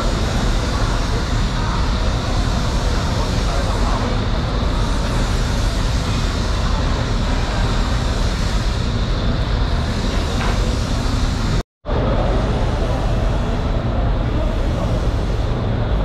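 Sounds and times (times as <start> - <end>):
market background din: 0.0 - 16.0.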